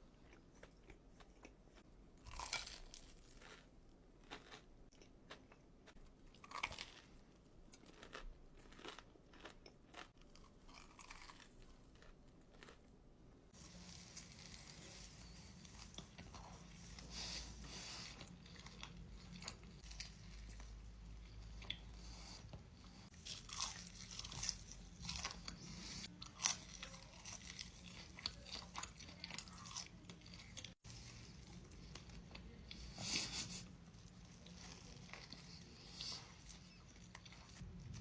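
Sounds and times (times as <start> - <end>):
person chewing crunchy food: 0.0 - 12.9, 13.5 - 38.0.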